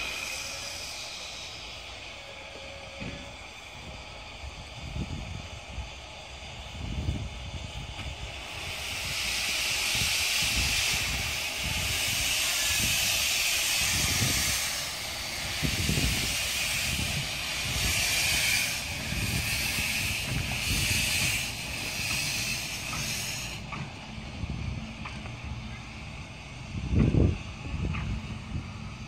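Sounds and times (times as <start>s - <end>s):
steam locomotive hissing: 0.0s - 29.0s.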